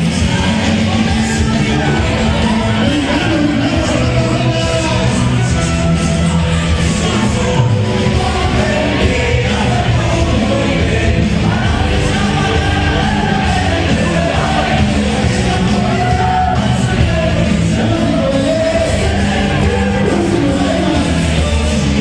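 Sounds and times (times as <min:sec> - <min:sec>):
cumbia music with singing: 0:00.0 - 0:22.0.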